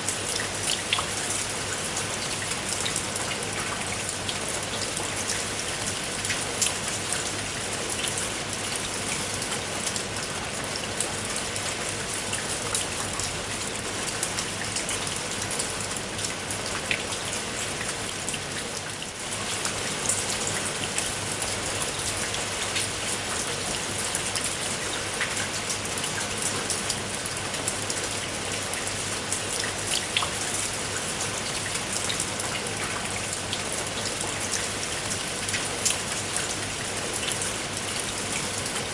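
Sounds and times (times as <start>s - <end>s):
rain falling: 0.0s - 38.9s
raindrops ticking on a surface: 0.0s - 38.9s.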